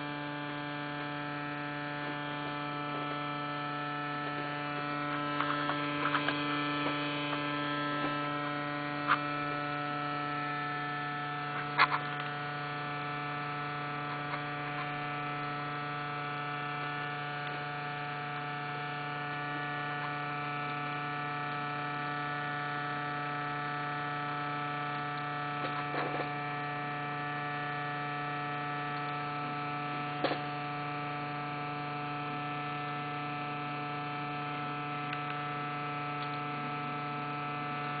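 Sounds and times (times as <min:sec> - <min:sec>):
computer droning hum: 0:00.0 - 0:38.0.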